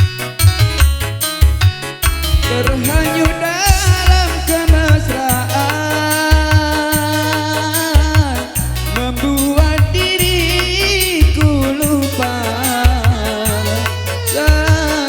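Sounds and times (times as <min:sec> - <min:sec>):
drum and bass rhythm: 0:00.0 - 0:15.0
sliding keyboard lead melody: 0:00.0 - 0:15.0.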